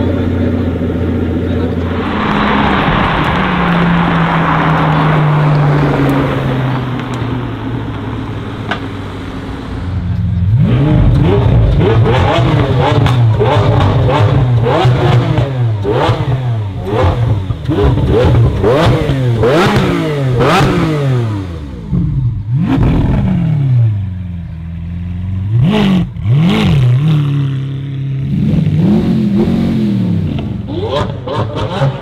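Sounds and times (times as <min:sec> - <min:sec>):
car engine revving and idling: 0:00.0 - 0:32.0.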